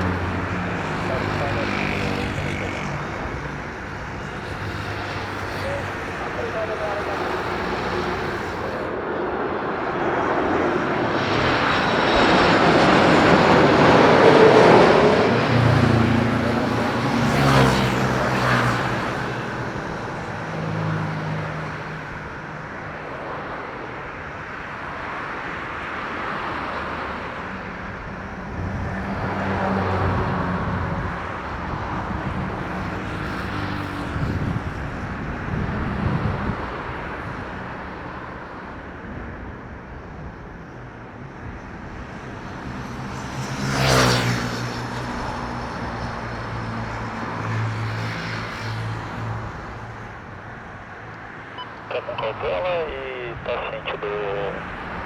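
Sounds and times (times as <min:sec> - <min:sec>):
jet airliner engines passing: 0:00.0 - 0:55.0.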